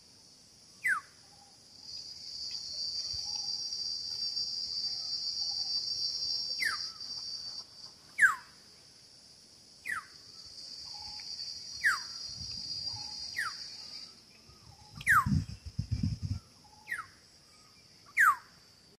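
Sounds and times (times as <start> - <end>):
high insect buzz: 0.0 - 18.9.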